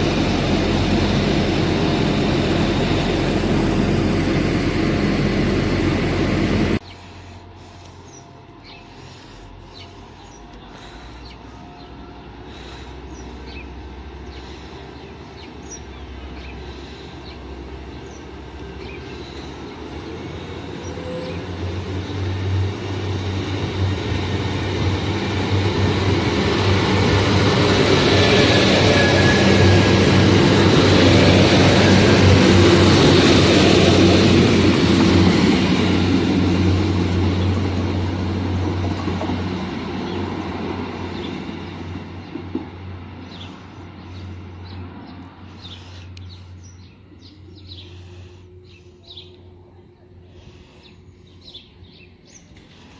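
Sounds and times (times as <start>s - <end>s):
train engine hum: 0.0s - 52.9s
train wheel rumble: 0.0s - 52.9s.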